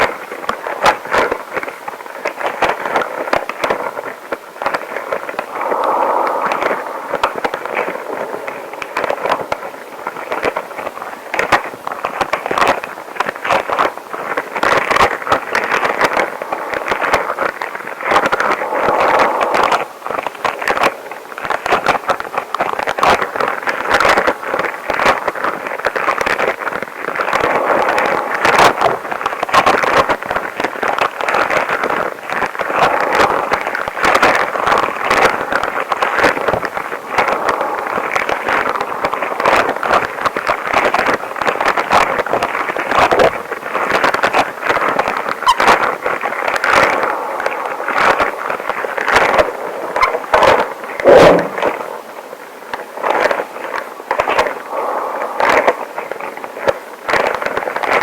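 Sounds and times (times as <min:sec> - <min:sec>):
rubber gloves rubbing and crackling: 0:00.0 - 0:58.0.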